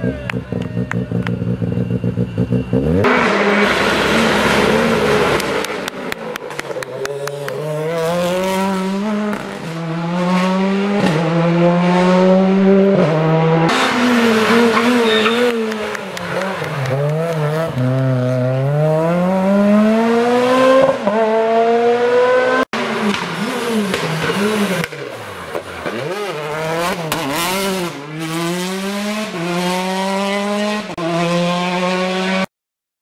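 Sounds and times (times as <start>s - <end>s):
car braking with throttle blips: 0.0s - 32.5s
rally car engine accelerating: 0.0s - 32.5s.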